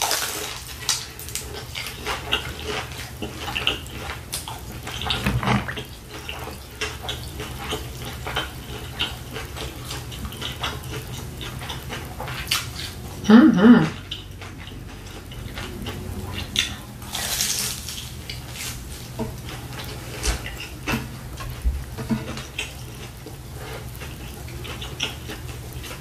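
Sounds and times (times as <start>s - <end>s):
chewing crunchy food: 0.0s - 26.0s.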